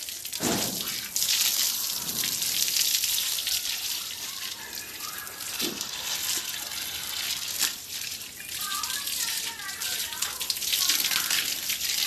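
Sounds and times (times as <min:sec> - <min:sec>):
water splashing on animal hide: 0:00.0 - 0:12.0.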